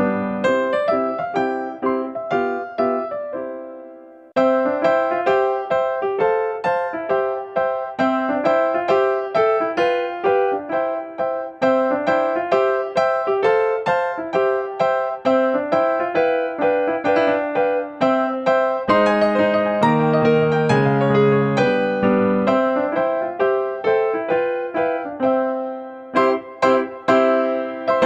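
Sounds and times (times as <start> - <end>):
keyboard melody: 0.0 - 28.0.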